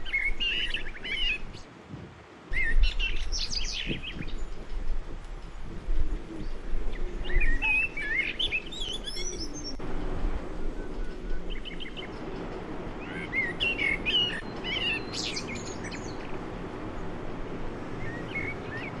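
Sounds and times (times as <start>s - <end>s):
small birds chirping: 0.0s - 1.7s, 2.6s - 19.0s.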